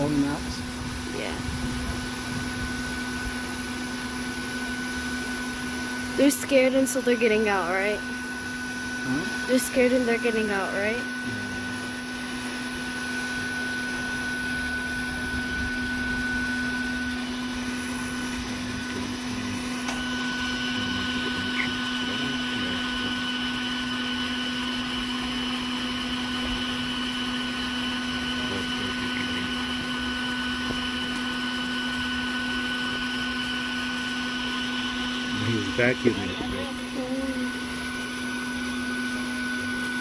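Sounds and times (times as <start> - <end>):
high whine: 0.0 - 40.0
vacuum humming: 0.0 - 40.0.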